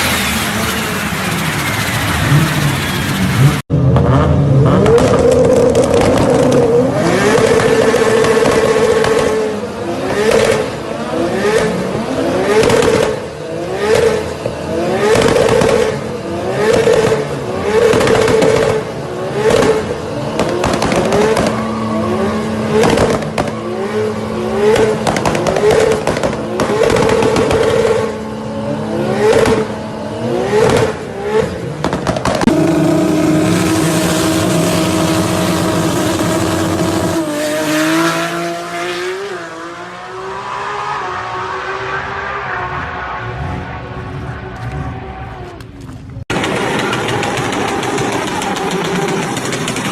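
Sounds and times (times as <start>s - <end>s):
exhaust cracks: 0.0s - 37.2s, 42.9s - 49.9s
car engine revving: 0.0s - 49.9s.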